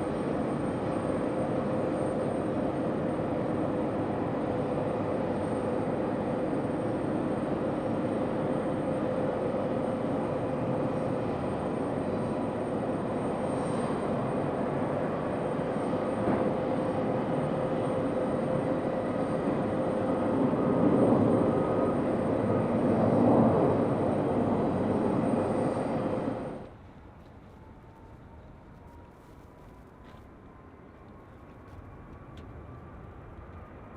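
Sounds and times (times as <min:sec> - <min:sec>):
jet engines rumbling and whining: 0:00.0 - 0:33.9.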